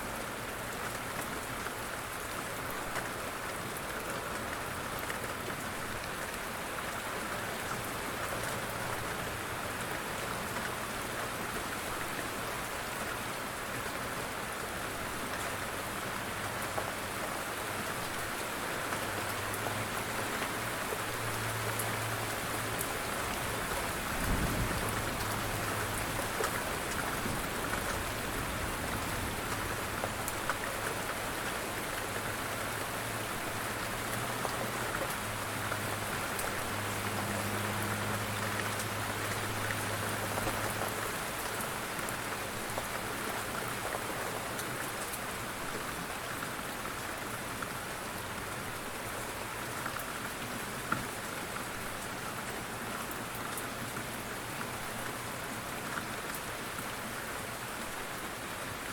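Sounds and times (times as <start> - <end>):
light rain patter: 0.0 - 58.9.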